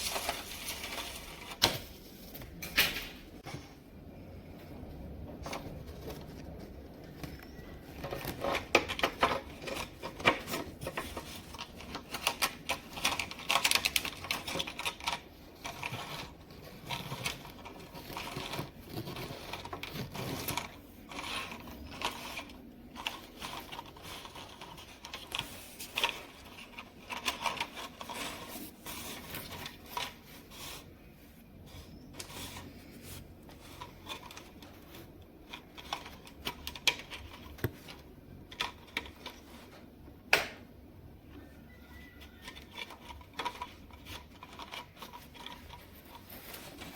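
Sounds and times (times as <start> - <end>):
small parts clicking and scraping: 5.5 - 31.0, 31.6 - 39.9, 41.4 - 46.9.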